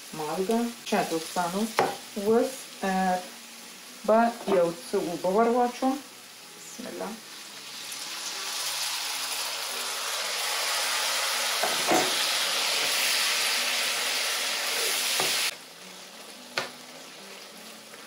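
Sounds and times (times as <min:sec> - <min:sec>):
water sizzling in hot oil: 0:00.0 - 0:18.0.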